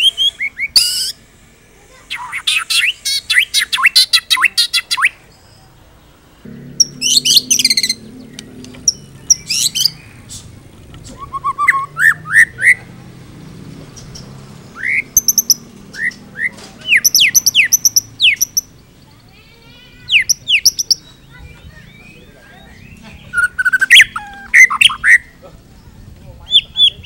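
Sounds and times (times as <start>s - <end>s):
songbird singing varied phrases: 0.0s - 1.2s, 2.1s - 27.0s.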